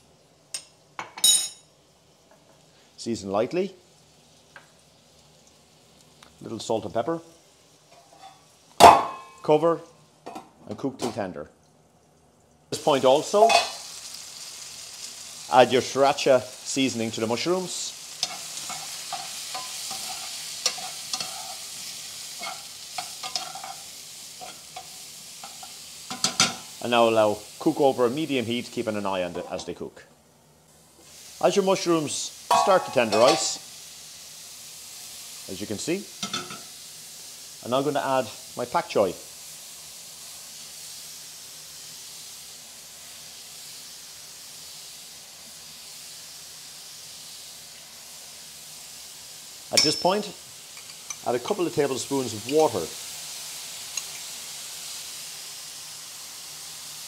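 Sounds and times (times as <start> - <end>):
mushrooms sizzling in a pan: 0.0 - 57.0.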